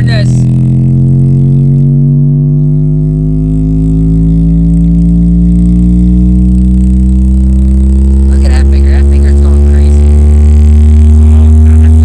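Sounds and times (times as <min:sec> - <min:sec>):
distorted bass tone rising in pitch: 0:00.0 - 0:12.0.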